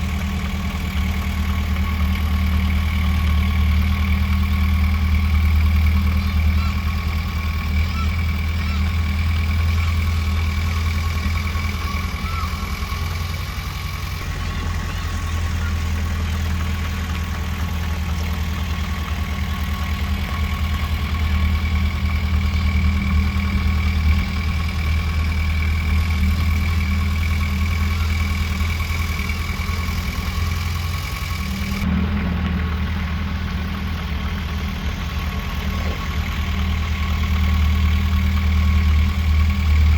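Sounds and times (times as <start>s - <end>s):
diesel engine low hum: 0.0s - 39.9s.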